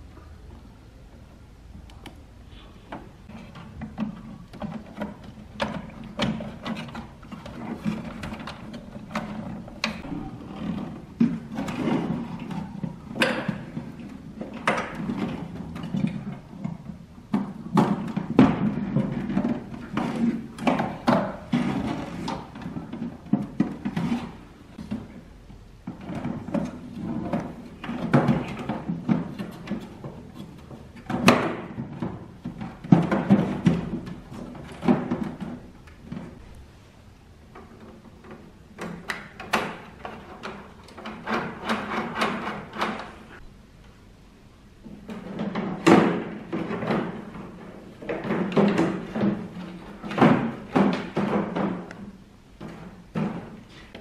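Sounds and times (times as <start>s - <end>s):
plastic parts clicking and knocking: 2.9s - 36.6s, 37.5s - 43.4s, 44.8s - 54.0s
plastic scraping and rattling: 2.9s - 36.6s, 37.5s - 43.4s, 44.8s - 54.0s.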